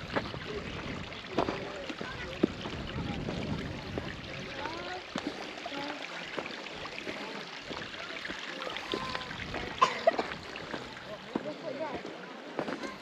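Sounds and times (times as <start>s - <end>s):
faint voices: 0.0s - 13.0s
stream running: 0.0s - 13.0s.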